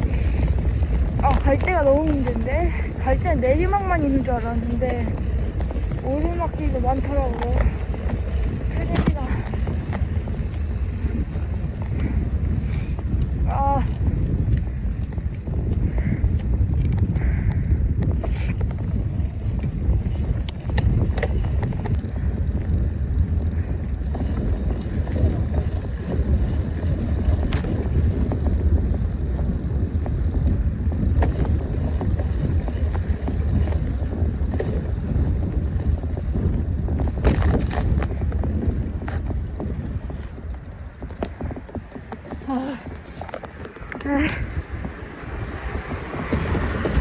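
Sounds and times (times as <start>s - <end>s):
road noise: 0.0s - 47.0s
wind buffeting microphone: 0.0s - 47.0s.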